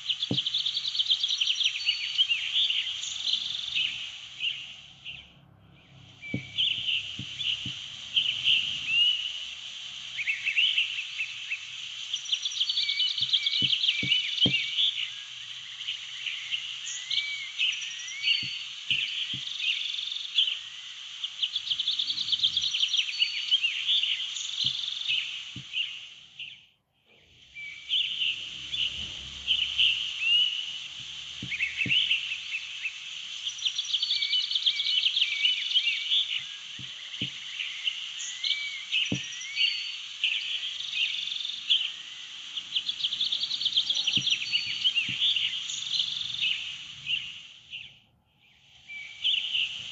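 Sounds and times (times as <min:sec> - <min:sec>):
chorus of animal chirps and trills: 0:00.0 - 0:49.9.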